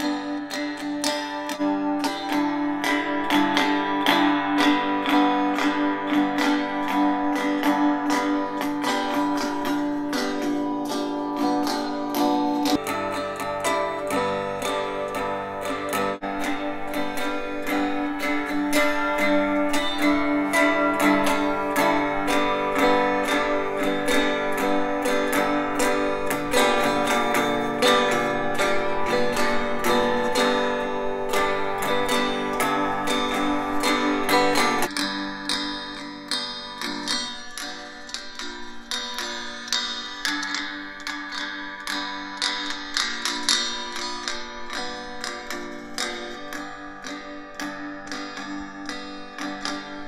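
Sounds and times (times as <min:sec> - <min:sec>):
guitar through speaker: 0:00.0 - 0:50.0.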